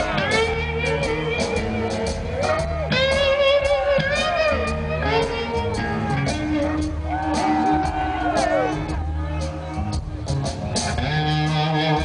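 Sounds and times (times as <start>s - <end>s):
electric guitar solo: 0.0s - 10.3s, 10.9s - 12.0s
bass and drums: 0.0s - 12.0s.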